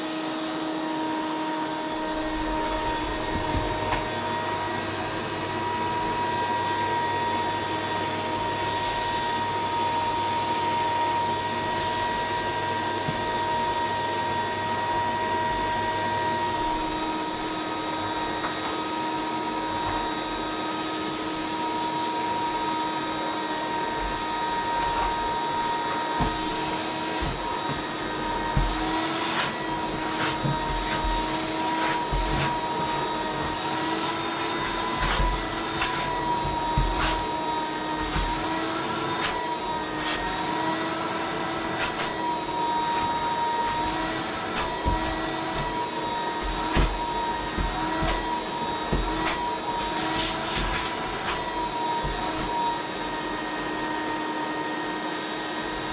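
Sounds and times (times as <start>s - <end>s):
vacuum cleaner motor whine: 0.0s - 55.9s.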